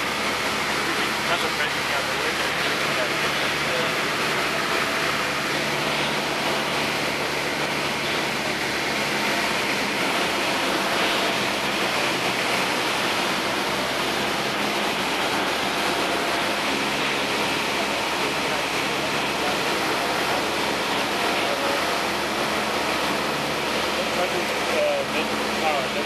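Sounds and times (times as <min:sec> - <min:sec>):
aircraft engine drone: 0:00.0 - 0:26.0.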